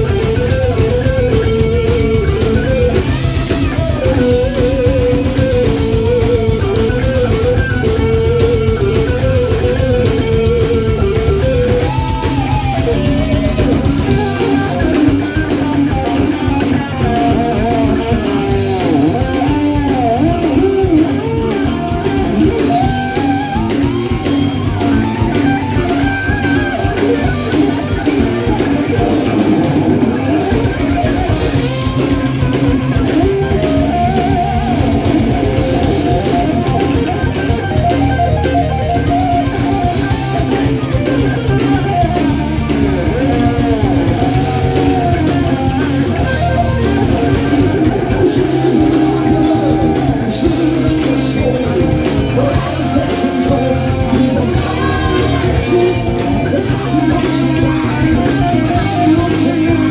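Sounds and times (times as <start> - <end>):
distorted electric guitars: 0.0 - 59.9
drums: 0.0 - 59.9
heavy metal band playing: 0.0 - 59.9.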